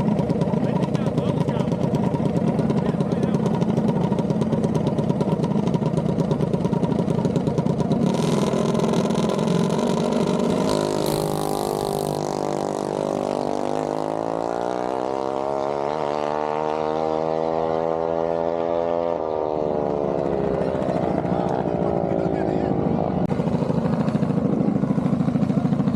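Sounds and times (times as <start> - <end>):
mini bike engine accelerating: 0.0 - 22.6, 23.3 - 25.9.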